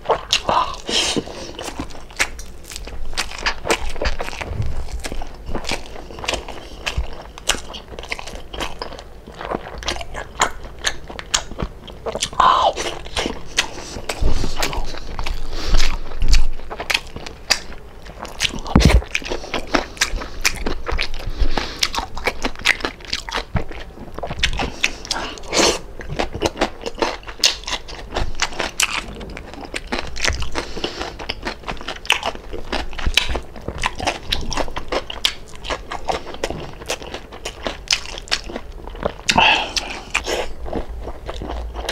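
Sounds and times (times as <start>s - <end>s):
person crunching fried pork: 0.0s - 41.9s.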